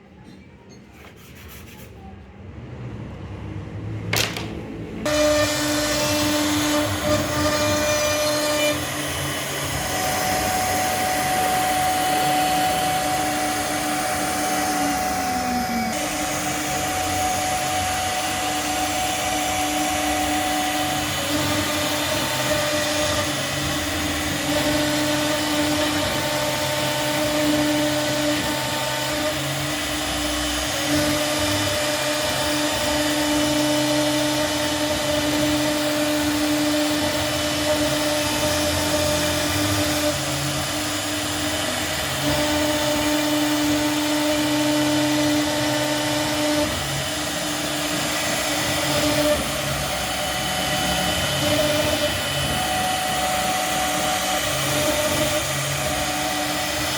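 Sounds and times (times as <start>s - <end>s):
cnc router whining: 4.2s - 56.9s.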